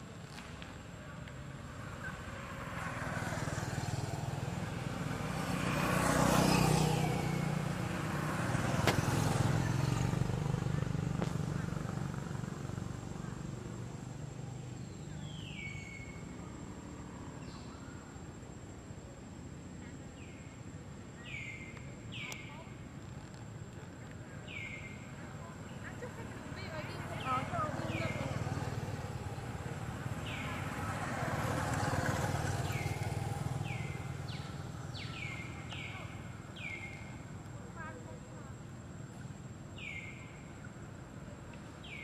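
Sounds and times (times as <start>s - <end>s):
motorcycle passing: 0.1s - 18.4s, 21.2s - 42.0s.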